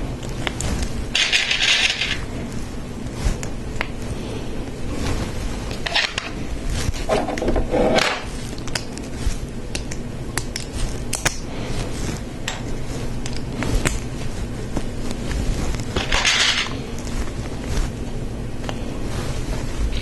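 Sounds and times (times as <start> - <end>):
rustle of plastic pieces: 0.2 - 7.6, 8.2 - 20.0.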